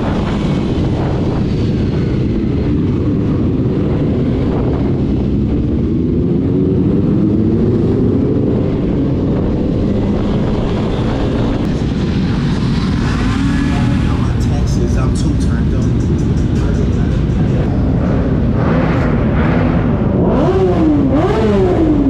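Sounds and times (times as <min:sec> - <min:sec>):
motorcycle engine running: 0:00.0 - 0:22.0
wind rumble on microphone: 0:00.0 - 0:22.0.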